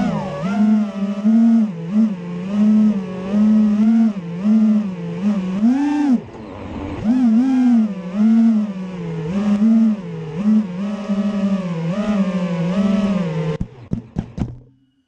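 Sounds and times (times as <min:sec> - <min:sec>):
quadcopter motors buzzing: 0:00.0 - 0:13.6.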